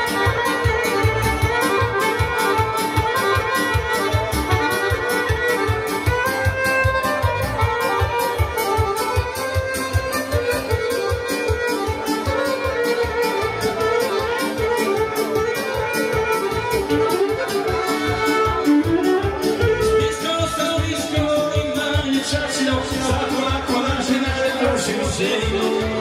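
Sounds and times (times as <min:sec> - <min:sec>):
fast steady beat: 0:00.0 - 0:26.0
keyboard accompaniment: 0:00.0 - 0:26.0
violin melody: 0:00.0 - 0:26.0.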